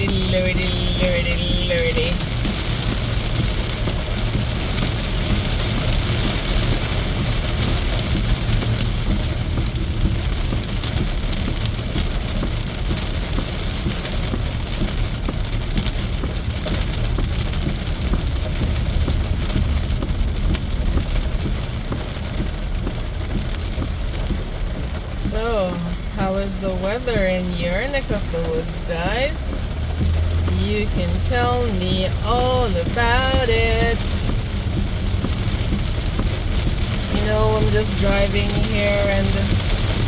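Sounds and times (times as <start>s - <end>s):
heavy rain on car roof: 0.0s - 40.0s
road noise: 0.0s - 40.0s.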